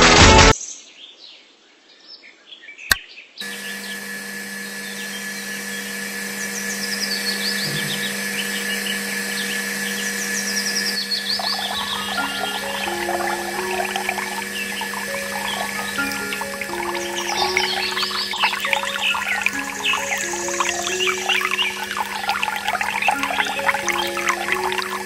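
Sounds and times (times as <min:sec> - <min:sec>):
birds chirping: 0:03.4 - 0:25.0
small electric motor humming: 0:03.4 - 0:25.0.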